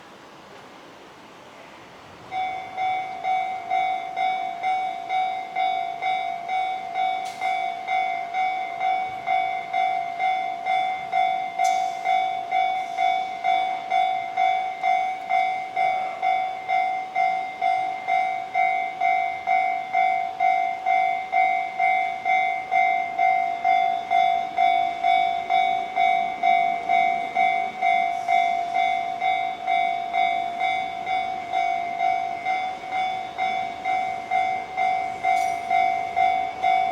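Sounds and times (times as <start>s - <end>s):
level crossing warning bell: 2.3s - 36.9s.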